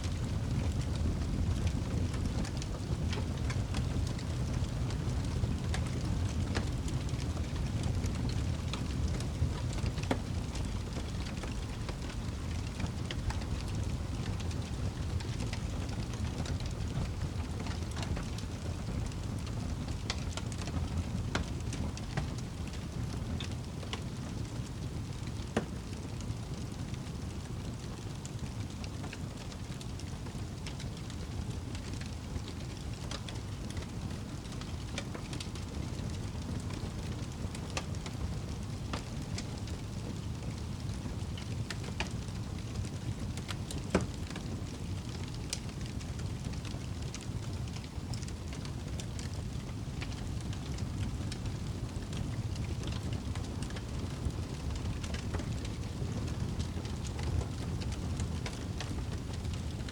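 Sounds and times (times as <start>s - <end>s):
campfire crackling: 0.0s - 59.9s
low rumble of burning: 0.0s - 59.9s.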